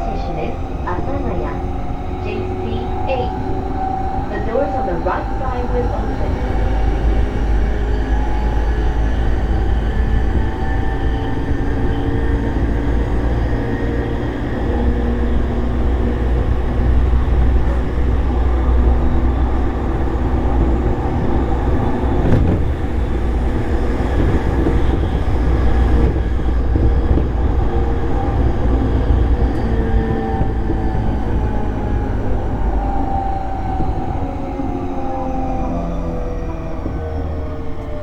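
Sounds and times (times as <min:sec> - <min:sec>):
traction motors humming: 0:00.0 - 0:38.0
train wheels rumbling on rail: 0:00.0 - 0:38.0.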